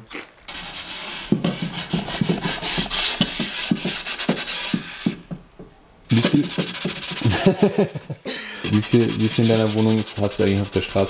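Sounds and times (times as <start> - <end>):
pad rubbing on wood: 0.5 - 5.3, 6.1 - 8.0, 8.6 - 11.0.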